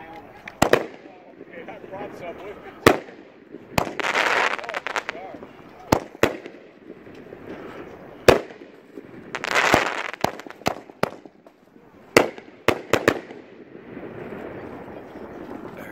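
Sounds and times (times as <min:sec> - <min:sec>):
firework crackling: 0:00.2 - 0:15.8
firework shells banging: 0:00.4 - 0:13.8.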